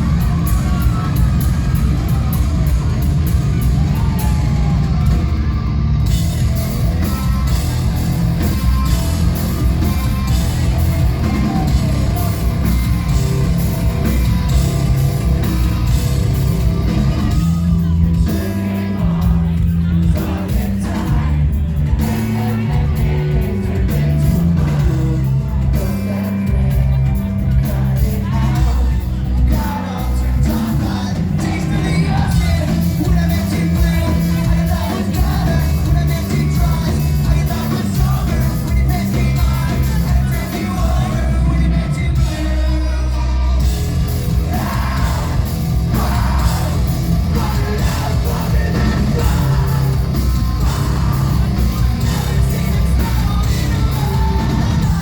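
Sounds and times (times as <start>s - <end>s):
bass guitar: 0.0s - 55.0s
distorted guitars: 0.0s - 55.0s
drums: 0.0s - 55.0s
person singing: 6.0s - 55.0s.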